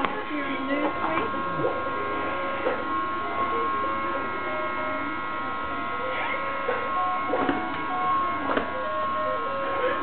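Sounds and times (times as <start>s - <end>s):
steady buzzing hum: 0.0s - 10.0s.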